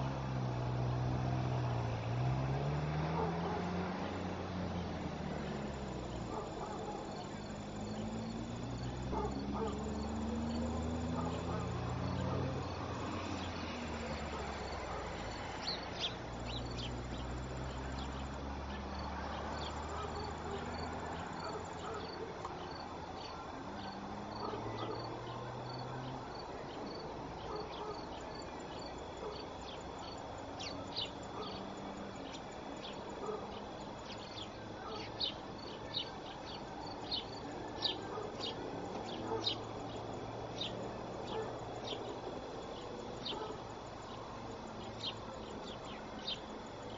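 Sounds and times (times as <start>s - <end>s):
insects chirping: 0.0s - 46.9s.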